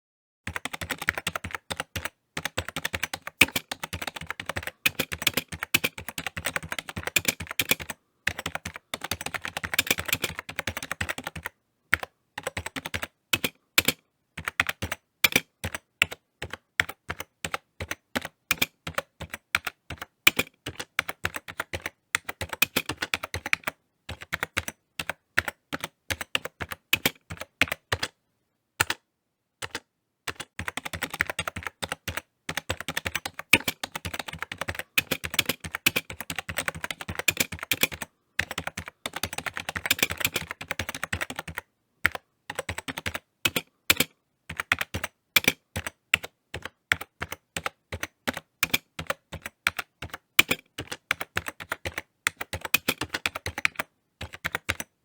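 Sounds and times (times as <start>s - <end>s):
typing on computer keyboard: 0.5s - 28.2s, 28.8s - 29.0s, 29.6s - 55.0s.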